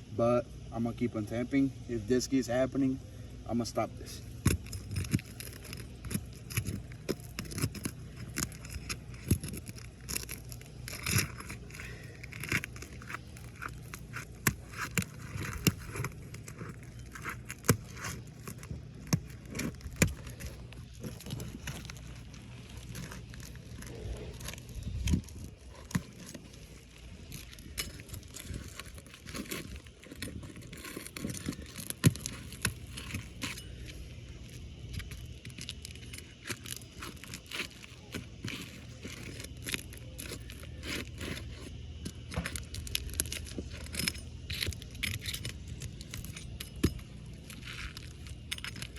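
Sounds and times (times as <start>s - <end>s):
roofing tool clicking and scraping shingles: 4.2s - 48.9s.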